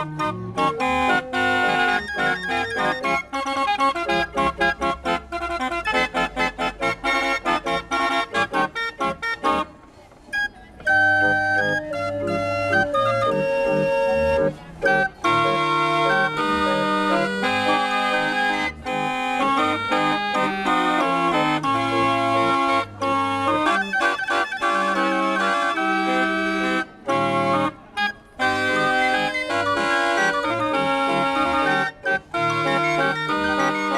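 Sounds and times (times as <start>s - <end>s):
barrel organ playing: 0.0s - 33.9s.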